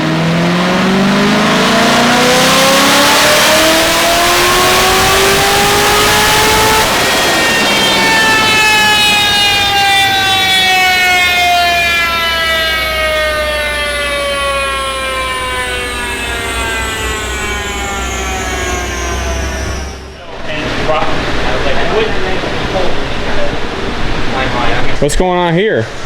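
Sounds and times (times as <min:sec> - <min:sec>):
supercharger whine falling: 0:00.0 - 0:25.5
engine low rumble: 0:00.0 - 0:26.0.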